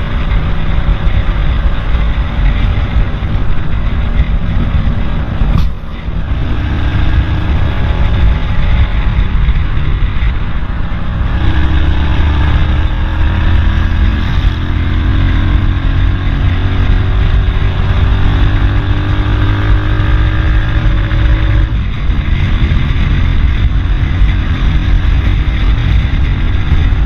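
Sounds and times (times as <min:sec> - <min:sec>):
low traffic rumble: 0:00.0 - 0:27.0
vehicles passing: 0:00.0 - 0:27.0.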